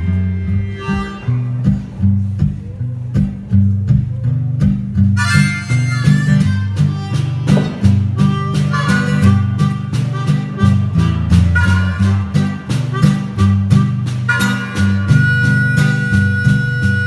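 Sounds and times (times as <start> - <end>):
harmonica melody: 0.0 - 2.3, 5.1 - 17.0
acoustic guitars strumming: 0.0 - 17.0
low bass notes: 0.0 - 17.0.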